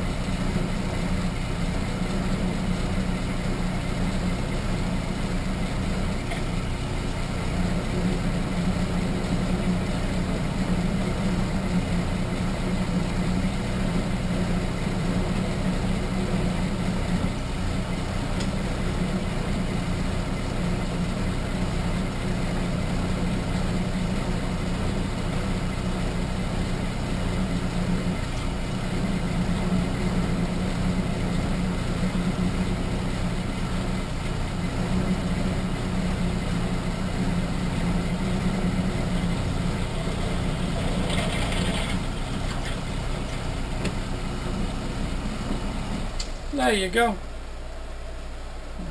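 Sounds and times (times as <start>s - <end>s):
lathe motor humming: 0.0s - 46.5s.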